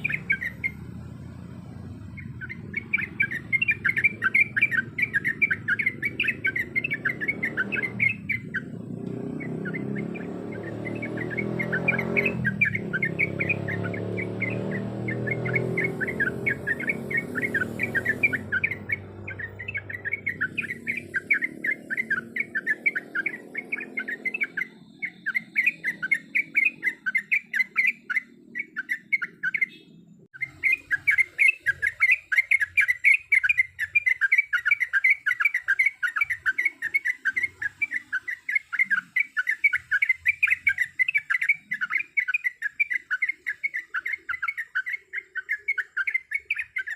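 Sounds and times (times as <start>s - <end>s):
bird chirping rapidly: 0.0s - 46.9s.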